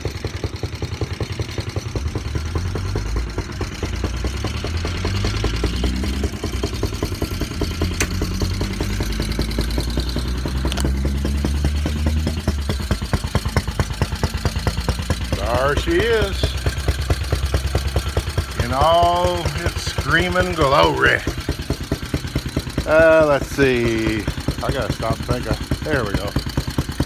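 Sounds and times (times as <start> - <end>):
single-cylinder engine running: 0.0 - 27.0.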